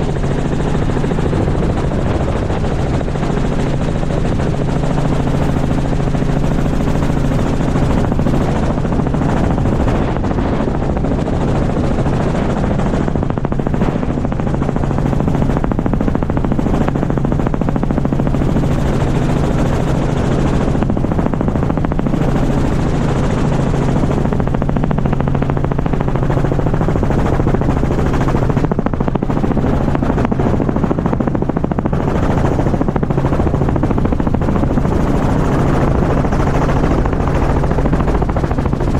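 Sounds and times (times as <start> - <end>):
helicopter rotor chop: 0.0 - 38.9.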